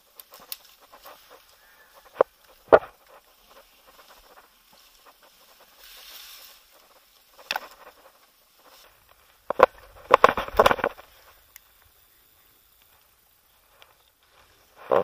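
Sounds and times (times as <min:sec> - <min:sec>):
grass and leaves rustling: 0:00.0 - 0:15.0
leafy branch crackling: 0:00.0 - 0:15.0.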